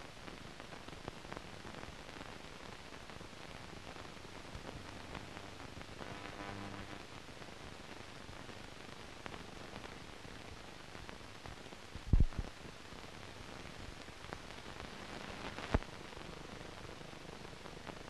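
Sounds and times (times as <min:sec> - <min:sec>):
film soundtrack hiss and crackle: 0:00.0 - 0:18.0.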